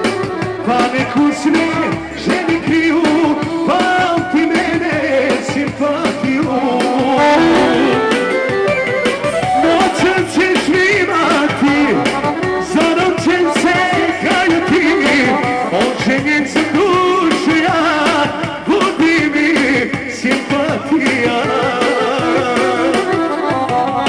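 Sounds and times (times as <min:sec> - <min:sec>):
person singing into a microphone: 0:00.0 - 0:08.6, 0:09.4 - 0:23.6
live band folk-pop music: 0:00.0 - 0:24.0.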